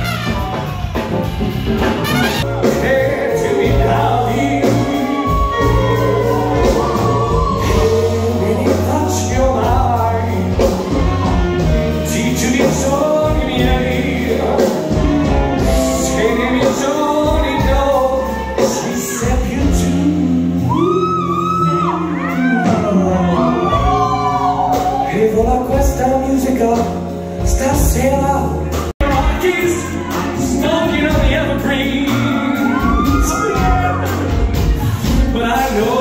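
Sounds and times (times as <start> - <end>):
steady bass notes: 0.0 - 36.0
person singing: 2.4 - 36.0.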